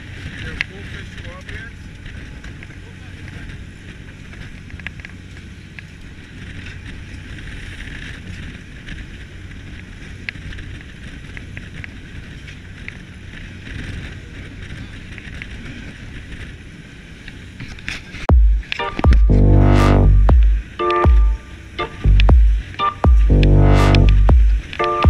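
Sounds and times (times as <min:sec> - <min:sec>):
boat engine drone: 0:00.0 - 0:25.0
wind on microphone: 0:00.0 - 0:25.0.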